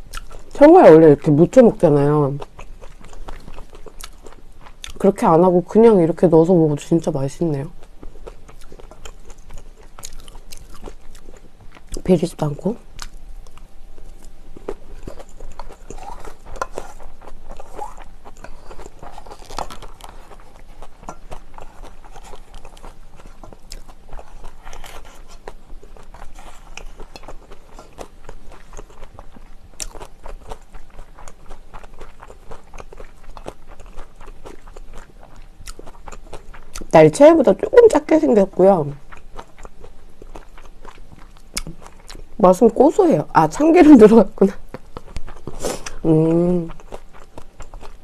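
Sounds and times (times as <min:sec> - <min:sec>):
chewing with crunching clicks: 0:00.0 - 0:00.6, 0:02.3 - 0:05.4, 0:07.0 - 0:38.1, 0:38.9 - 0:42.4, 0:44.0 - 0:48.0.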